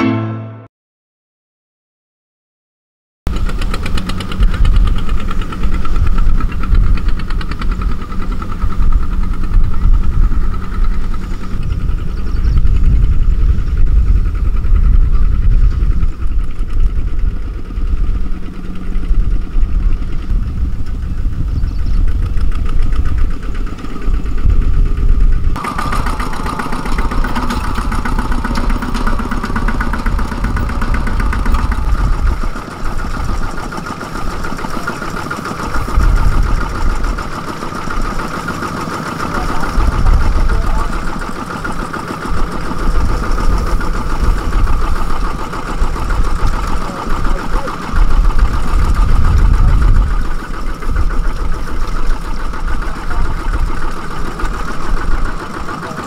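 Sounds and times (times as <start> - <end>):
diesel engine chugging: 3.3 - 56.0.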